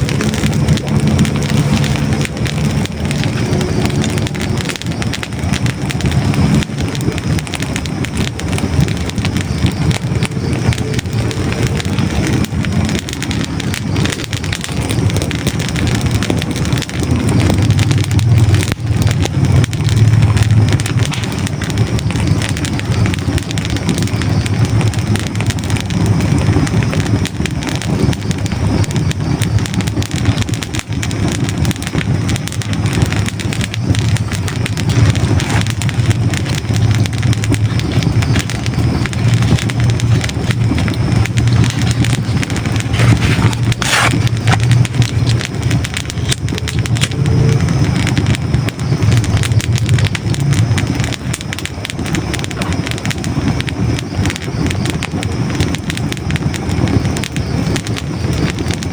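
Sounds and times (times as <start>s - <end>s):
logs crackling and popping: 0.0s - 58.9s
low rumble of flames: 0.0s - 58.9s.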